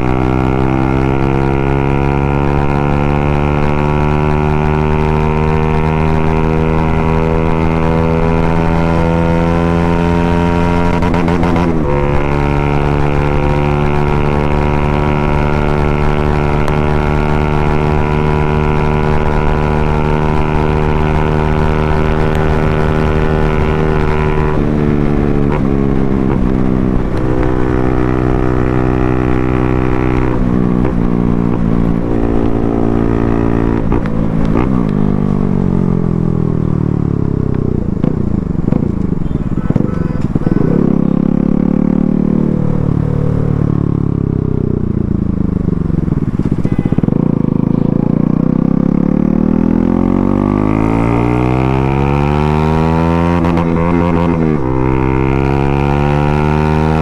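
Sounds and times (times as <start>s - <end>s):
motorcycle engine with loud exhaust: 0.0s - 57.0s.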